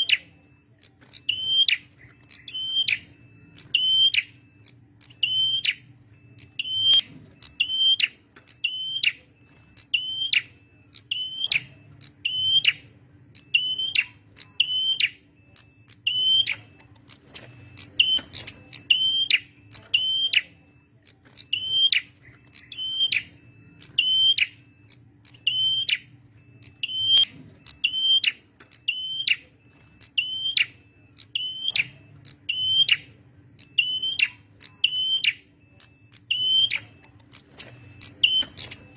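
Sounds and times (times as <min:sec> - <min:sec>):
songbird calling: 0:00.0 - 0:38.9.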